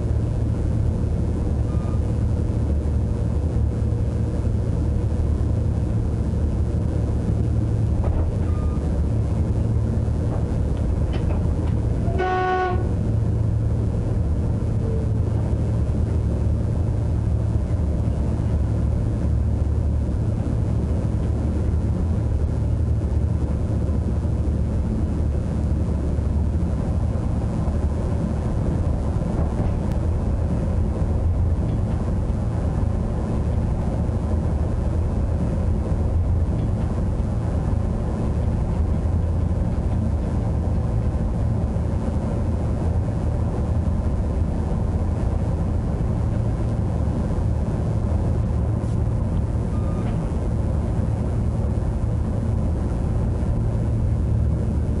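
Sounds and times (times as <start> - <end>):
train traction motor rumble: 0.0 - 55.0
train wheels on rails: 6.4 - 55.0.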